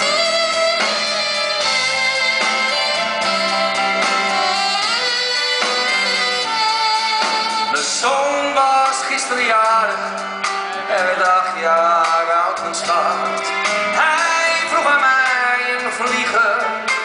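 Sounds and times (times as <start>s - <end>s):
live instrumental music: 0.0s - 17.0s.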